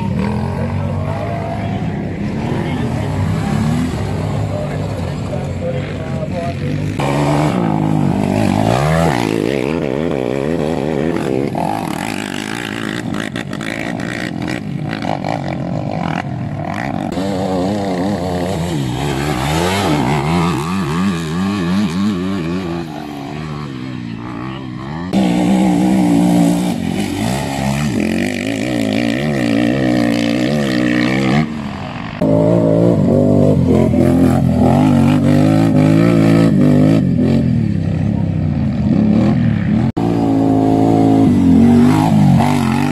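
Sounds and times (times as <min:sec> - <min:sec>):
quad engines revving: 0:00.0 - 0:42.9.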